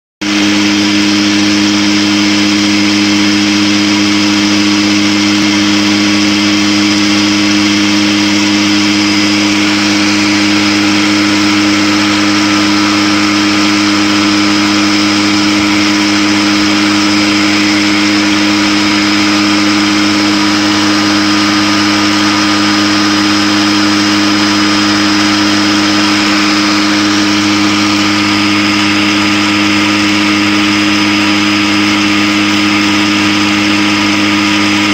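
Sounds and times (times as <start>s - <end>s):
motor hum and whine: 0.2s - 34.9s.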